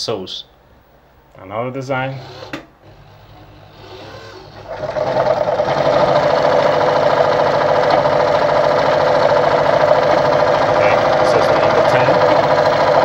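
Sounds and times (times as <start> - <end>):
electric sewing machine running: 2.2 - 13.0.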